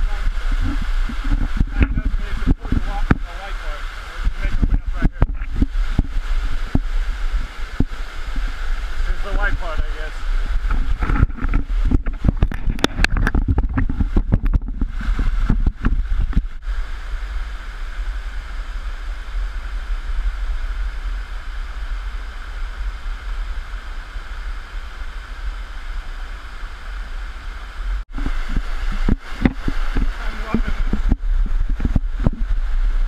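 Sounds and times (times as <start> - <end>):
water splashing: 0.0 - 33.0
waterfall rushing over rocks: 0.0 - 33.0.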